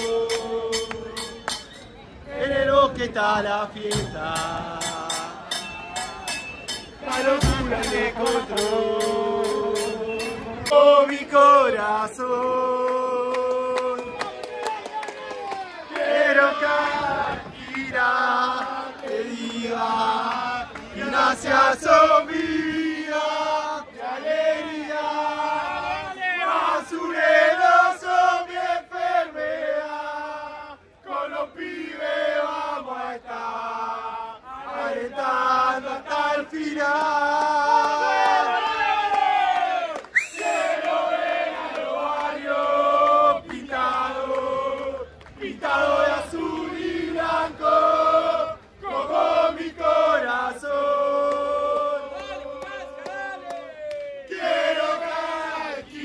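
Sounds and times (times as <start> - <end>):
football supporters chanting: 0.0 - 56.0.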